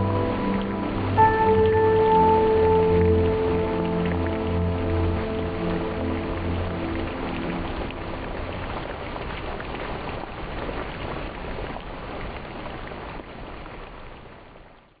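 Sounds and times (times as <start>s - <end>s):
water drops splashing into a pool: 0.0s - 14.0s.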